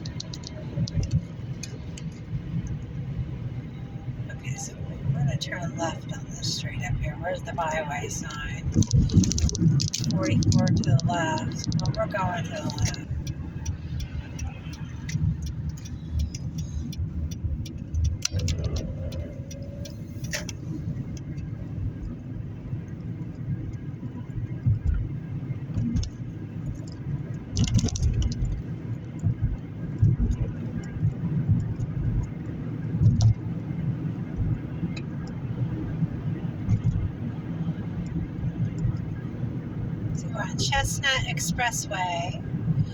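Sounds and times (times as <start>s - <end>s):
road and engine rumble in car: 0.0s - 42.9s
turn signal ticking: 0.0s - 42.9s.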